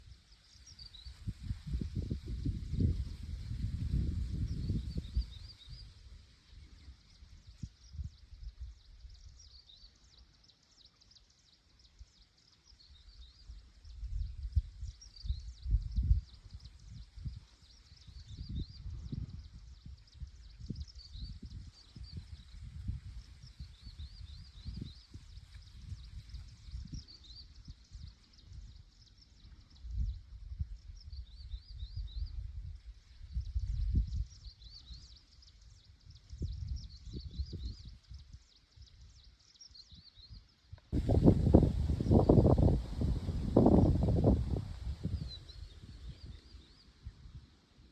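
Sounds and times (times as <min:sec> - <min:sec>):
wind rumbling on microphone: 0:00.0 - 0:10.2, 0:11.9 - 0:47.9.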